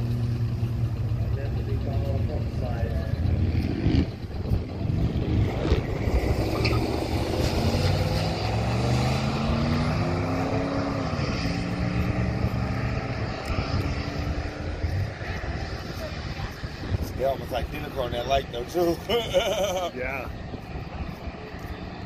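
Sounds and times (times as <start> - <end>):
car engines revving hard: 0.0 - 22.0.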